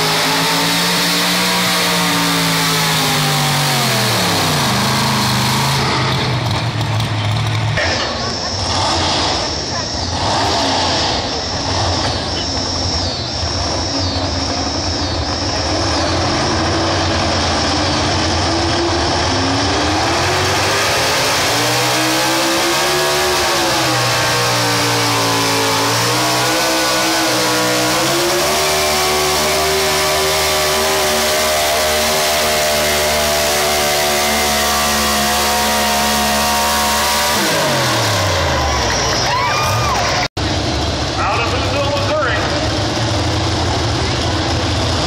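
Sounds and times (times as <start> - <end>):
engine revving under load: 0.0 - 45.0.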